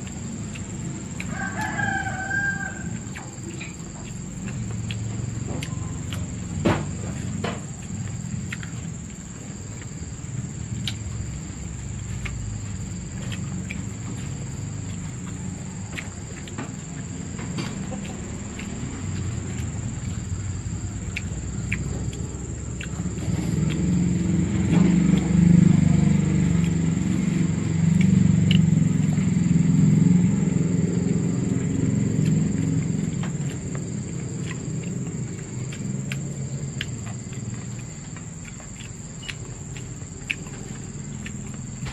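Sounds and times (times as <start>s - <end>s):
chewing and lip-smacking: 0.0s - 41.9s.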